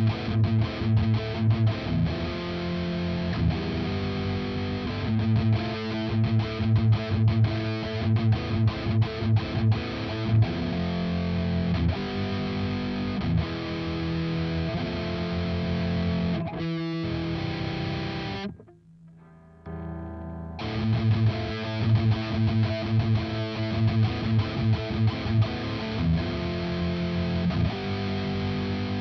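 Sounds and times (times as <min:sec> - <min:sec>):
distorted electric guitar riff: 0:00.0 - 0:29.0
distorted guitar chords ringing: 0:00.0 - 0:29.0.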